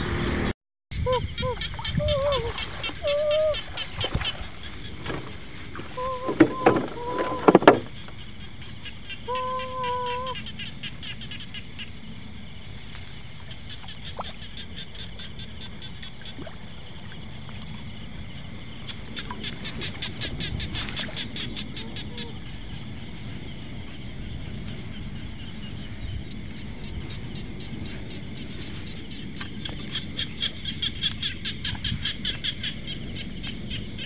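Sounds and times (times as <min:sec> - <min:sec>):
pulsing chorus of small animals: 0:00.0 - 0:34.0
splashing in shallow water: 0:01.4 - 0:08.0, 0:12.6 - 0:33.8.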